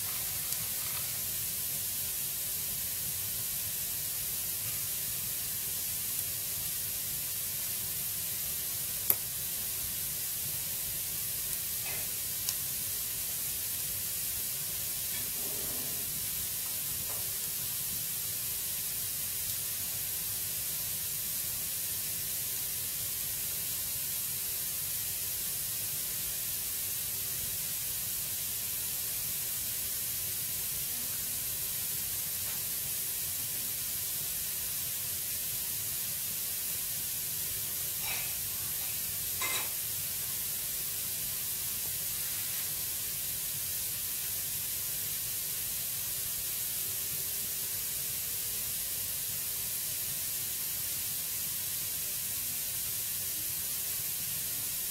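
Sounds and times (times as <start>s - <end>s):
fire crackles: 0.0s - 15.3s, 16.0s - 48.5s
fire hissing: 0.0s - 54.9s.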